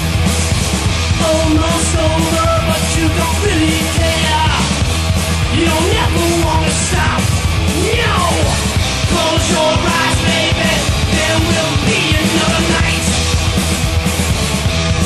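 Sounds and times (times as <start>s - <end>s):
heavy metal band playing: 0.0s - 15.0s
sliding lead guitar line: 0.0s - 15.0s.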